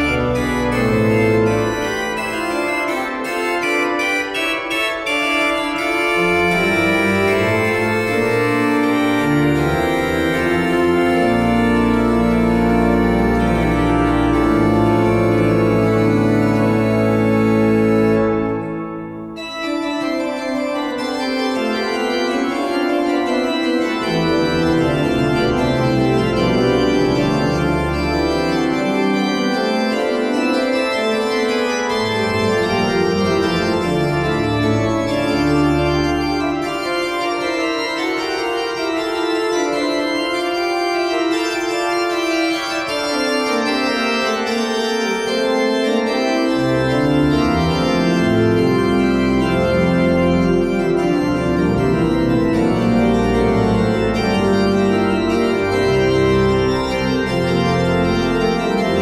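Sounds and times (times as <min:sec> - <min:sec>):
low organ pedal notes: 0:00.0 - 0:59.0
pipe organ chords: 0:00.0 - 0:59.0.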